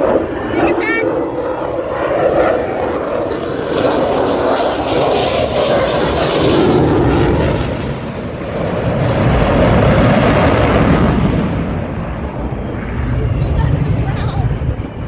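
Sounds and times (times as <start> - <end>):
fighter jet passing overhead: 0.0 - 15.0.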